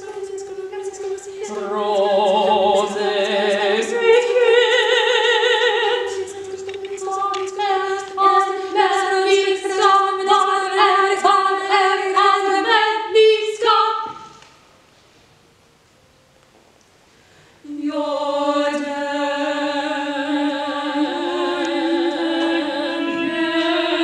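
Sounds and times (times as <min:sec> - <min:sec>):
women singing a cappella: 0:00.0 - 0:14.4, 0:17.6 - 0:24.0.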